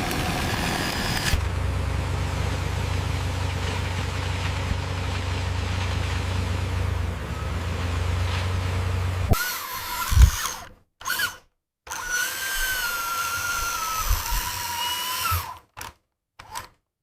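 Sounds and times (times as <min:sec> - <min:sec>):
small electric motor whining: 0:00.0 - 0:04.6, 0:06.4 - 0:15.6.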